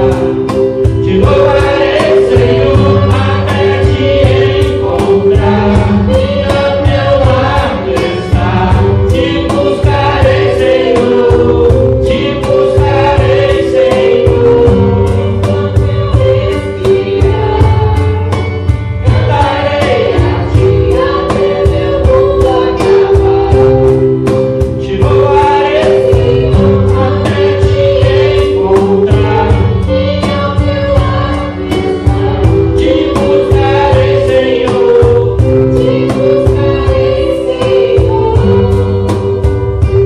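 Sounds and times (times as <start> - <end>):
instrumental accompaniment with beat: 0.0 - 40.0
man and women singing: 0.0 - 40.0.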